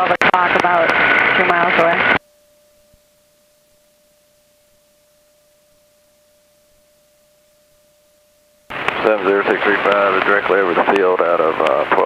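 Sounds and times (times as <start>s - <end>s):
faint high-pitched electrical tone: 0.0s - 12.0s.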